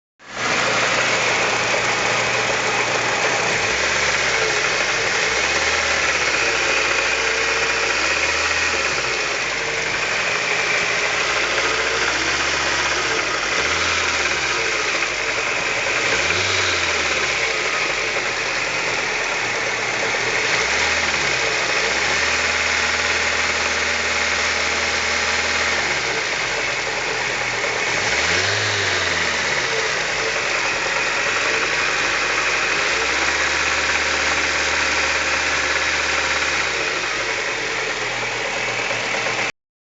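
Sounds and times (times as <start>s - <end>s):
car engine running: 0.2s - 39.5s.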